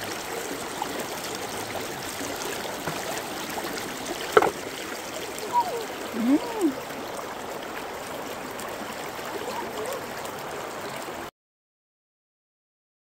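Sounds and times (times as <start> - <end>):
creek rushing over rocks: 0.0 - 11.3.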